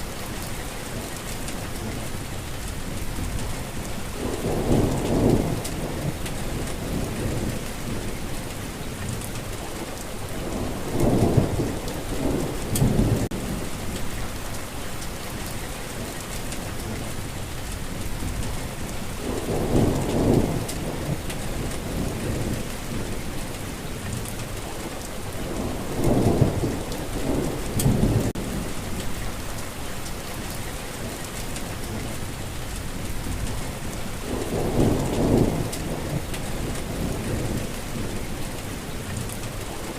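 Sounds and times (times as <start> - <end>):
rain hissing: 0.0 - 39.9
low thunder rumbles: 1.6 - 14.5, 16.3 - 30.6, 31.3 - 39.8.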